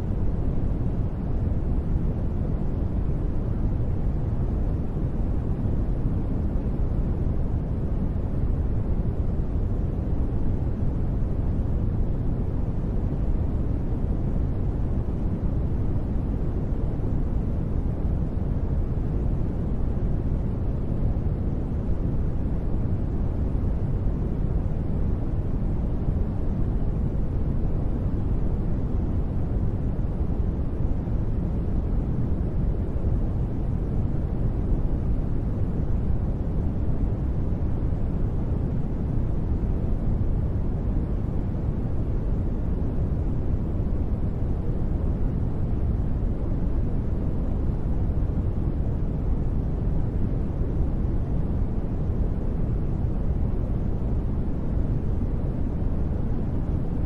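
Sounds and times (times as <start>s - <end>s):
deep steady noise rush: 0.0s - 57.0s.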